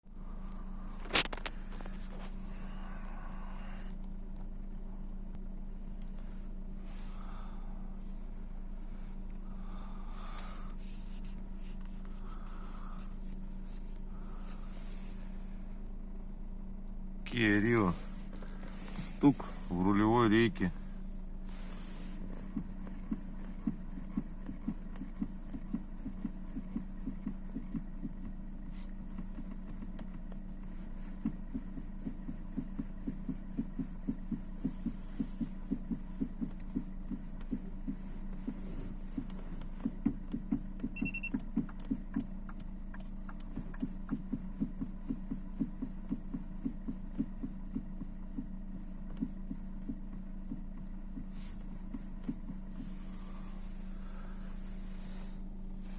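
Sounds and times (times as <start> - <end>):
car interior low hum: 0.0 - 55.9.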